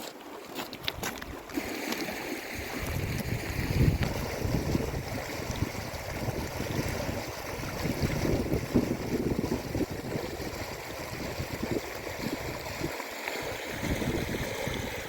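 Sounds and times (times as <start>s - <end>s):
river water flowing: 0.0s - 15.0s
wind buffeting microphone: 2.6s - 15.0s.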